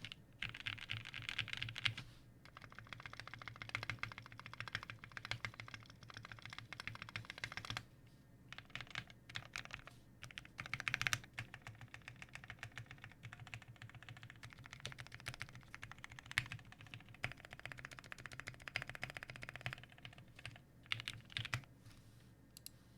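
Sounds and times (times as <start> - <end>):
mechanical keyboard typing: 0.0 - 7.8, 8.5 - 21.6.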